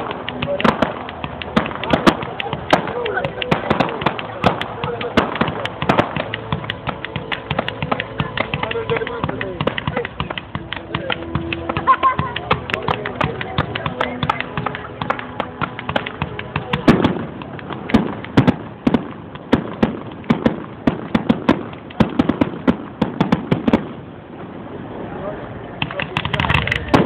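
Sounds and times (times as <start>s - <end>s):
fireworks cracks and pops: 0.0s - 24.5s, 25.8s - 27.0s
fireworks bangs and deep booms: 0.0s - 24.6s, 25.8s - 27.0s.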